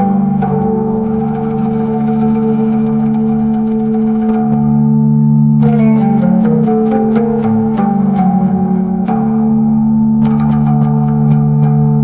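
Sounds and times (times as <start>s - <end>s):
plucked oud notes: 0.0s - 12.0s.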